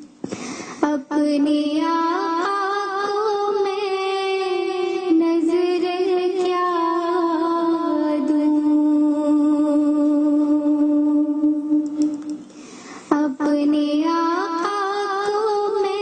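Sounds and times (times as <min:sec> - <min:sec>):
girl singing into a microphone: 0:00.0 - 0:16.0.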